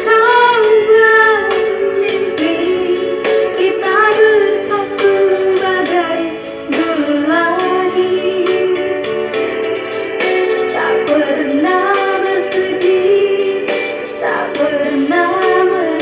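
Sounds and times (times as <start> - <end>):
musical accompaniment with plucked beats: 0.0 - 16.0
person singing: 0.0 - 16.0.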